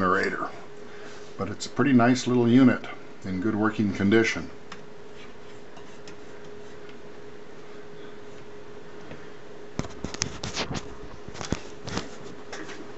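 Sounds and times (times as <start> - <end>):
thin steady hum: 0.0 - 12.9.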